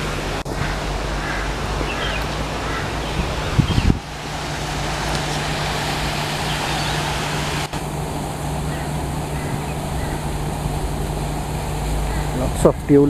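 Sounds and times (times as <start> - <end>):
outdoor hiss-like background noise: 0.0 - 13.0.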